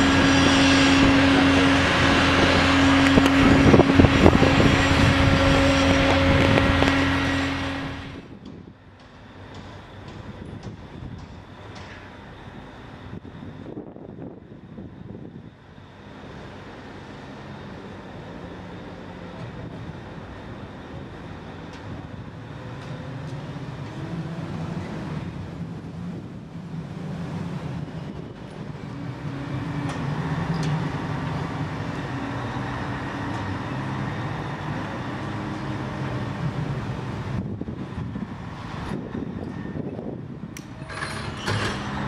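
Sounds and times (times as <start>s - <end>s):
heavy diesel engine under load: 0.0s - 42.0s.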